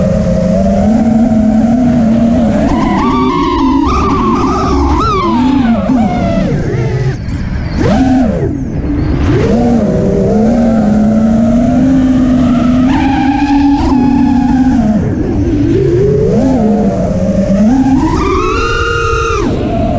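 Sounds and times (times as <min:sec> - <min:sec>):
drone motors whining: 0:00.0 - 0:19.9.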